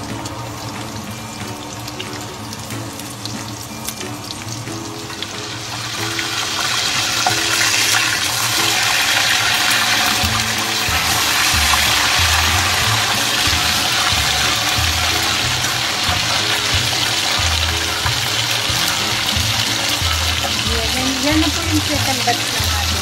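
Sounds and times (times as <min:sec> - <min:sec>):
background music: 0:00.0 - 0:23.0
pork chops sizzling in hot oil: 0:00.0 - 0:23.0.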